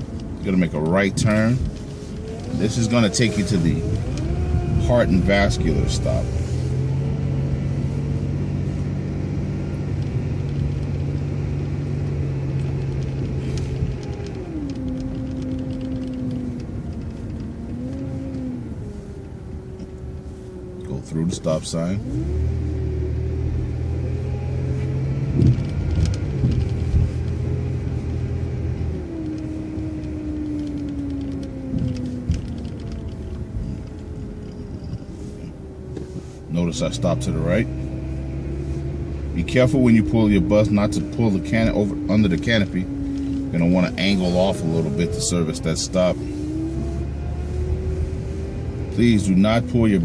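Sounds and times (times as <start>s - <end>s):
bus engine droning: 0.0s - 50.0s.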